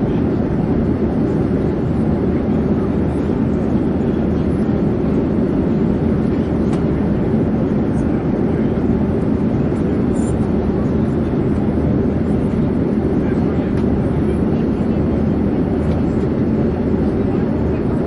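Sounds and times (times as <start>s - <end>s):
airplane engine drone: 0.0s - 18.0s.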